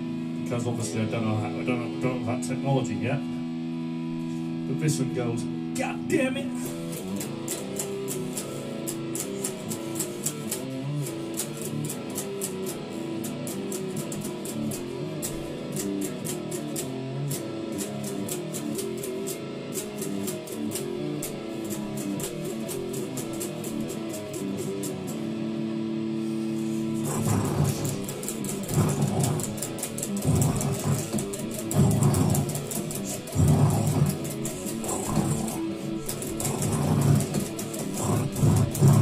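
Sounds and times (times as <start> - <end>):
electric guitar riff: 0.0 - 39.0.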